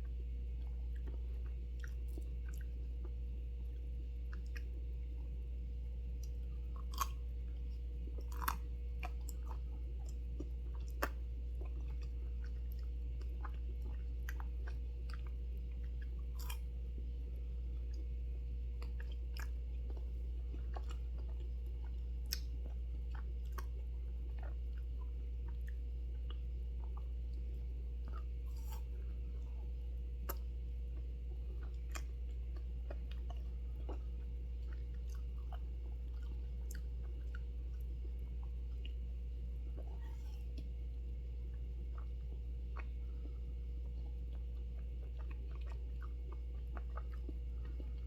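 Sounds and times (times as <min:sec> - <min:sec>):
chewing and crunching ice pop: 0:00.0 - 0:48.0
low hum: 0:00.0 - 0:48.0.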